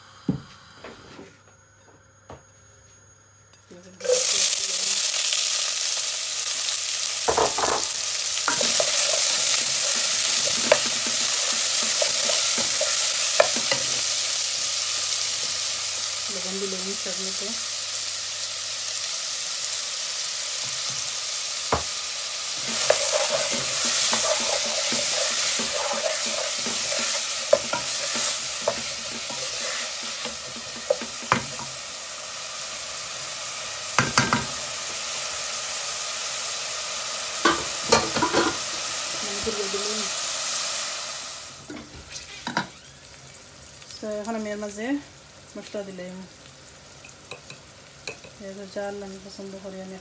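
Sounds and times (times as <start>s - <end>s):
onions sizzling in oil: 4.0s - 50.0s.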